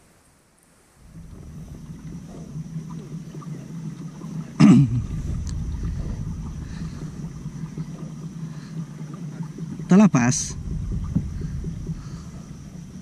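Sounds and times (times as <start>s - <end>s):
kayak moving across water: 0.0s - 13.0s
wind on microphone: 1.0s - 13.0s.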